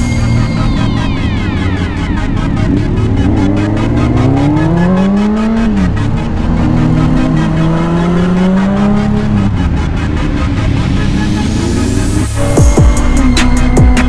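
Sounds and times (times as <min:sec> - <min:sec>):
electronic music with steady beat: 0:00.0 - 0:14.0
motorcycle engine accelerating: 0:00.0 - 0:14.0.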